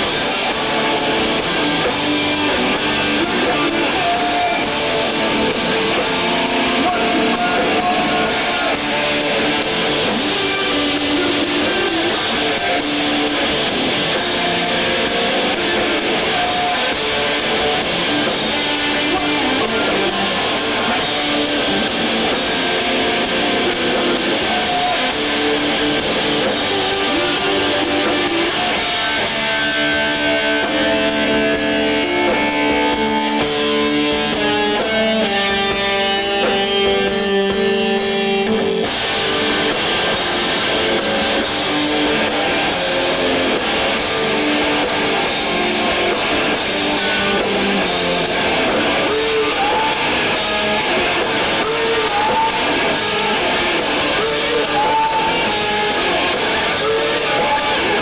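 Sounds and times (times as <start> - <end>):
distorted electric guitars: 0.0 - 58.0
live rock band playing: 0.0 - 58.0.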